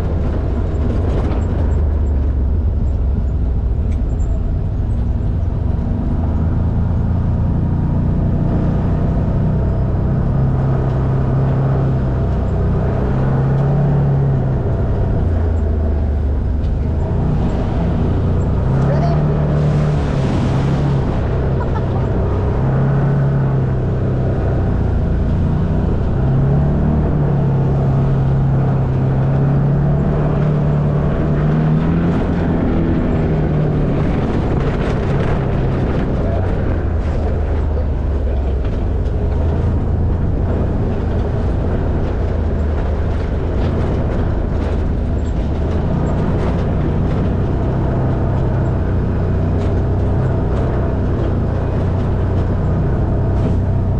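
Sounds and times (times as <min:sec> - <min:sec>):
vehicle knocks and rattles: 0:00.0 - 0:06.0, 0:10.4 - 0:53.9
vehicle engine running: 0:00.0 - 0:53.9.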